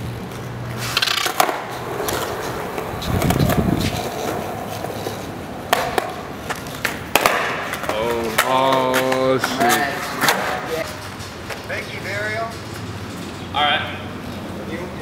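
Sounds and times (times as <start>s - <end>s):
skateboard clacking on ground: 0.0s - 13.1s
skateboard wheels rolling on concrete: 0.0s - 15.0s.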